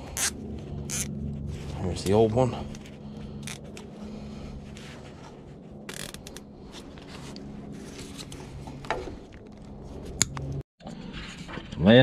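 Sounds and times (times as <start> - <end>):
hands rubbing and scraping wiring: 0.0 - 10.6
steady low hum: 0.0 - 10.6.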